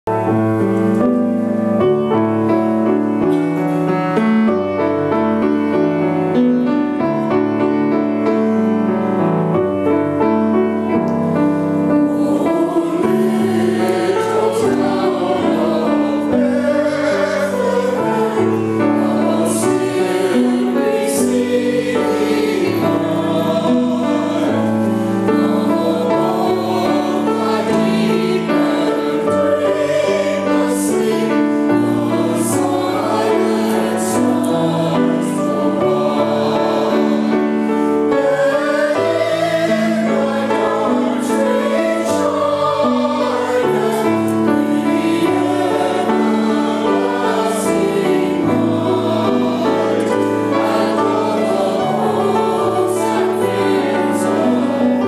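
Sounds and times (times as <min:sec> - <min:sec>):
piano accompaniment: 0:00.0 - 0:55.0
choir singing a hymn: 0:00.1 - 0:55.0.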